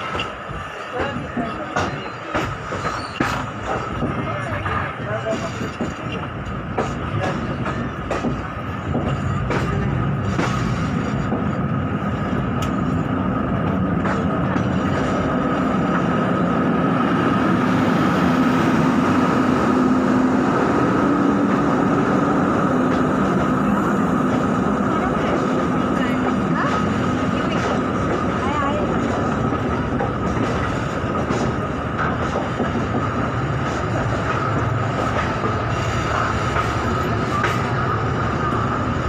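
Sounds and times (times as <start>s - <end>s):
train coach rumble with hum: 0.0s - 39.0s.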